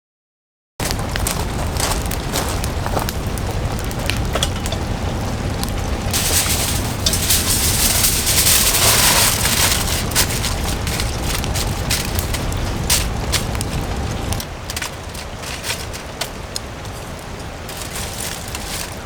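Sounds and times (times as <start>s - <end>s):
fire hissing: 0.8s - 19.0s
wood fire crackling: 0.8s - 19.0s.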